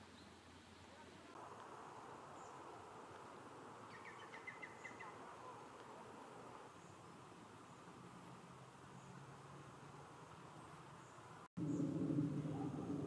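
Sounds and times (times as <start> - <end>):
low outdoor hiss: 0.0 - 13.0.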